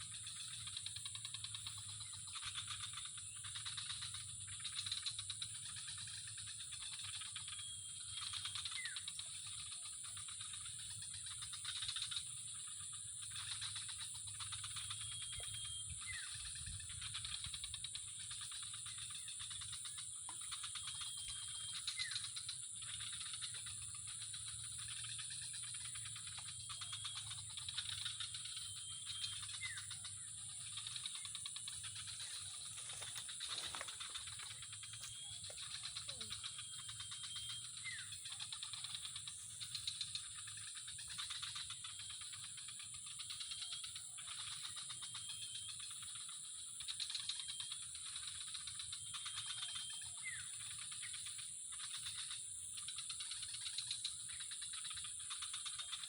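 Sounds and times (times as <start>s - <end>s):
faint short insect call: 0.0s - 56.0s
high-pitched insect drone: 0.0s - 56.0s
rasping insect trill: 0.0s - 56.0s.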